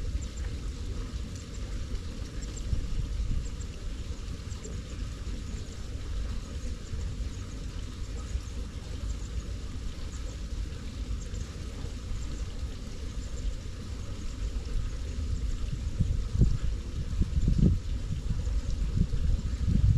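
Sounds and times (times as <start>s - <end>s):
wind buffeting microphone: 0.1s - 7.5s, 10.8s - 19.9s.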